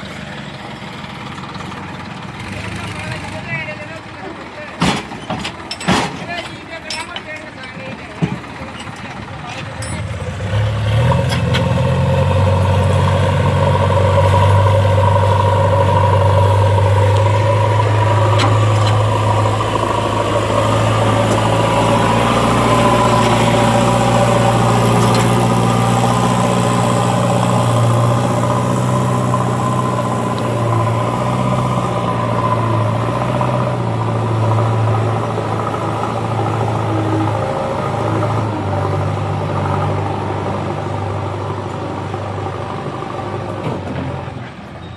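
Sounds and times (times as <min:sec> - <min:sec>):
heavy vehicle engine running: 0:00.0 - 0:44.9.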